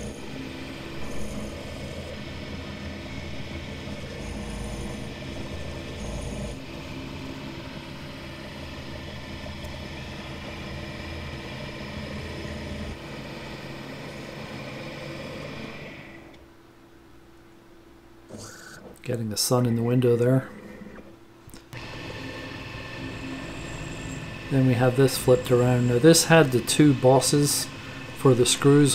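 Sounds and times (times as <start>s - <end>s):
milling machine drone: 0.0s - 16.5s, 18.3s - 28.9s.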